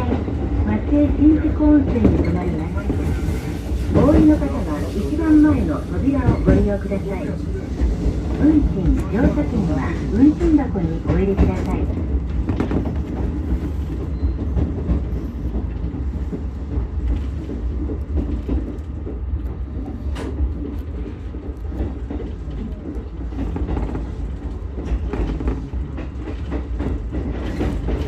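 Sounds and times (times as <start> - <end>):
railcar wheels rumbling on rail: 0.0 - 28.0.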